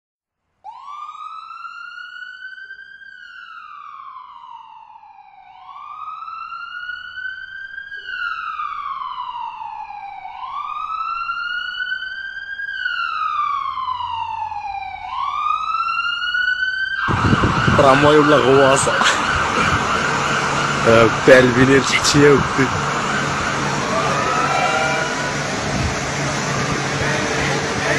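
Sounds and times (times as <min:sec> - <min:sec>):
siren wailing: 0:00.6 - 0:27.9.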